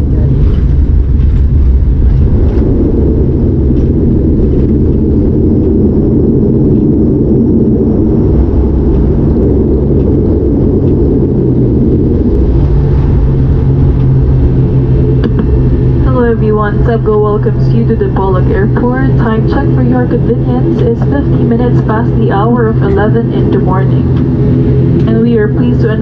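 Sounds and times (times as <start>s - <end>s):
low hum: 0.0s - 26.0s
turboprop engines rumbling: 0.0s - 26.0s.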